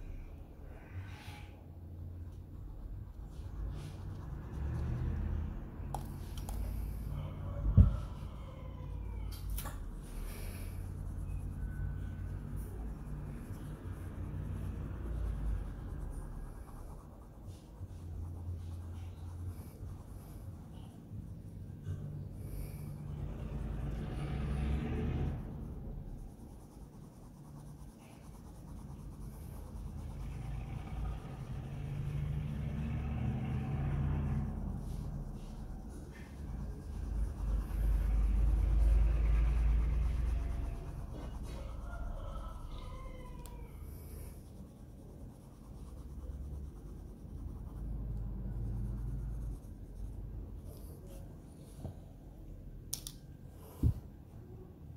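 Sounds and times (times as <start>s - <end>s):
low rumble: 0.0s - 52.9s
pencil scratching on paper: 2.1s - 7.1s, 9.8s - 51.6s.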